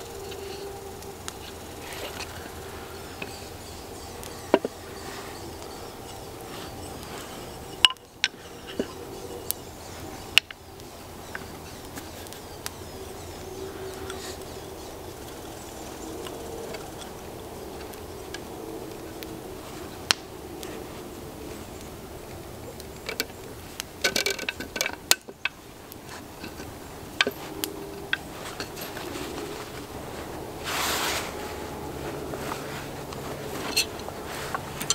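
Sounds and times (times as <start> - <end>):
background hiss: 0.0 - 34.9.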